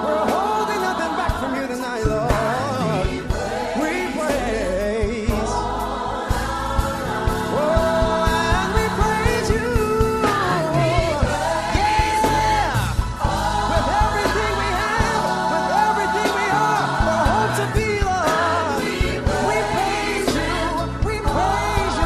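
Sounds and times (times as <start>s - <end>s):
band with bass and beat: 0.0s - 22.0s
choir singing: 0.0s - 22.0s
lead singer: 0.0s - 22.0s.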